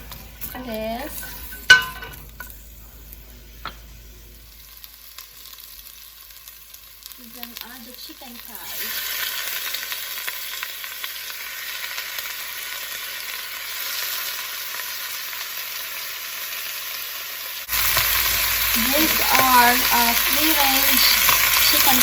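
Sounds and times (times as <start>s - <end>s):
chicken sizzling in oil: 3.9s - 22.0s.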